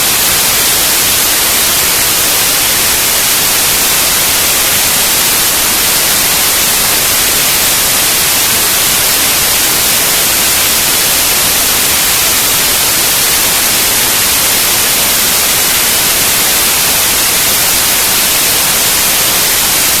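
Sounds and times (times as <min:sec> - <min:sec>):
static hiss: 0:00.0 - 0:20.0.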